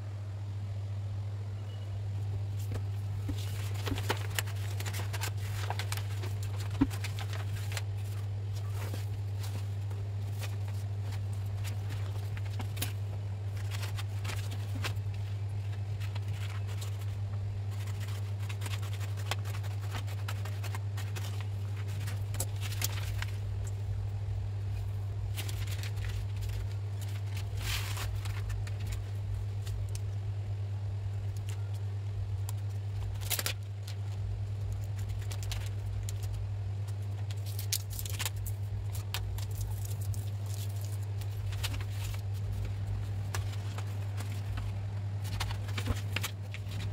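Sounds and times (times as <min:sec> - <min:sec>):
steady low hum: 0:00.0 - 0:46.9
vinyl film crinkling: 0:02.2 - 0:46.9.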